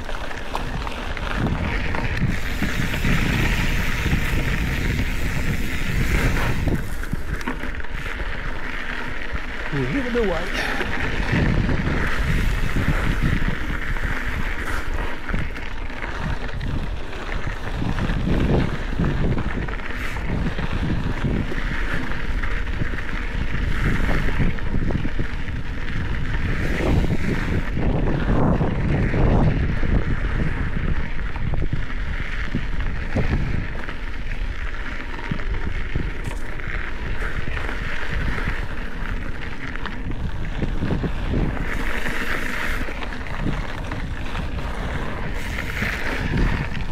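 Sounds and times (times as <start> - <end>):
bike tyres rumbling and rattling: 0.0 - 46.9
wind buffeting microphone: 0.0 - 46.9.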